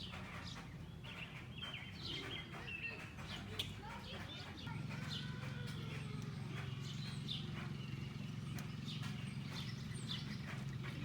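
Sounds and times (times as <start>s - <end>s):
birds chirping: 0.0s - 11.0s
low mechanical hum: 0.0s - 11.0s.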